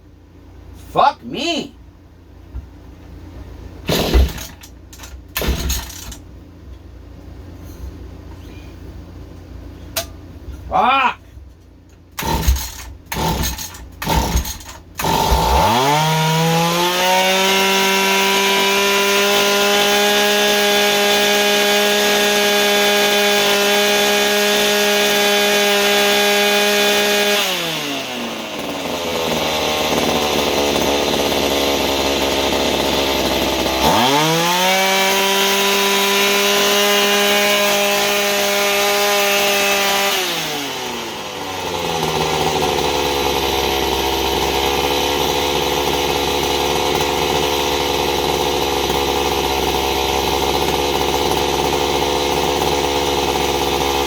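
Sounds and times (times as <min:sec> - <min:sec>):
small tiller engine revving: 0:03.8 - 0:06.2, 0:12.2 - 0:54.0.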